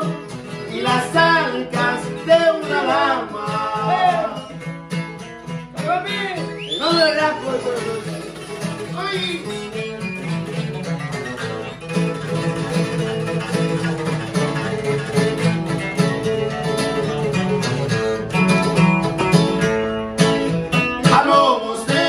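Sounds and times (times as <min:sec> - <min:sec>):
guitar melodic run: 0:00.0 - 0:22.0
strummed rhythm guitar: 0:00.0 - 0:22.0.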